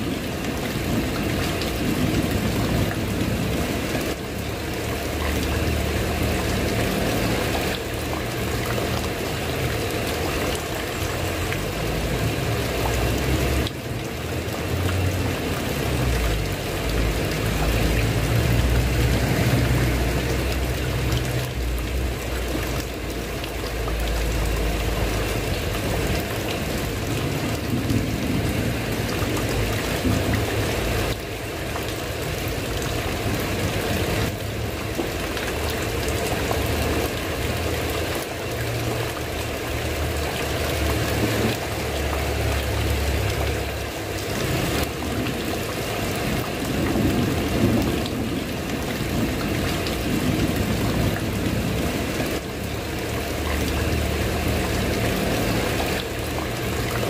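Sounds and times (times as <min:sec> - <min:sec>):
heavy rain on a tile roof: 0:00.0 - 0:57.0.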